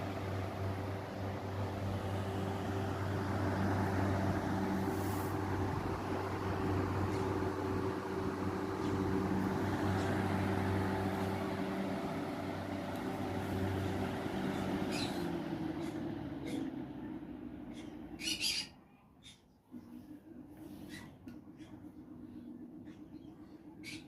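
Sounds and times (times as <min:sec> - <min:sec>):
light clicks of slowing fan: 0:00.0 - 0:18.1, 0:21.1 - 0:23.4
box fan running: 0:00.0 - 0:24.0.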